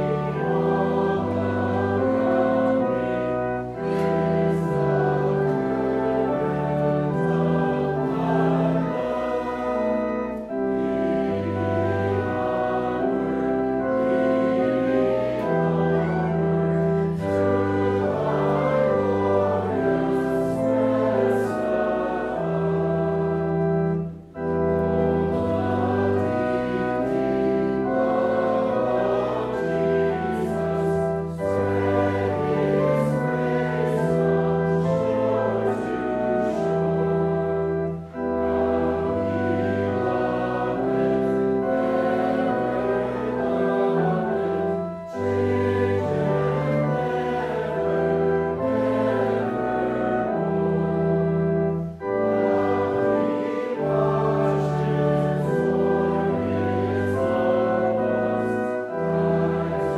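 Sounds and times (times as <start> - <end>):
congregation singing a hymn: 0.0 - 59.9
keyboard chords: 0.0 - 59.9.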